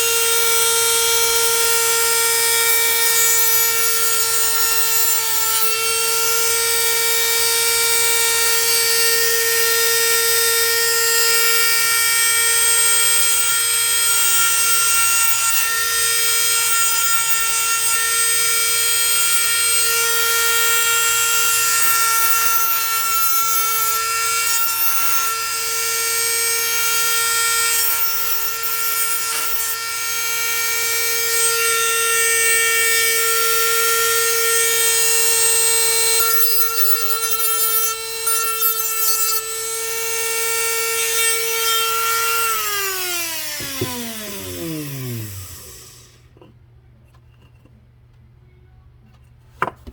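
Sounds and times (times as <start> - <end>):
power tool whining: 0.0 - 46.3.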